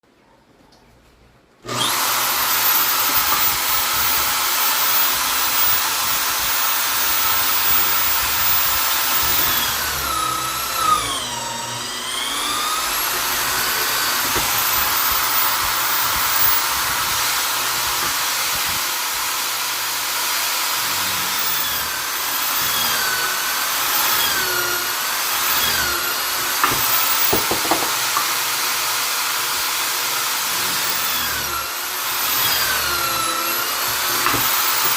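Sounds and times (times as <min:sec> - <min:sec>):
drill motor whining: 0:01.6 - 0:34.9.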